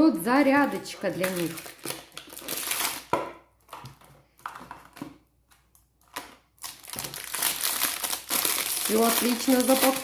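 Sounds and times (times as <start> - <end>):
plastic packaging crinkling: 0.4 - 10.0.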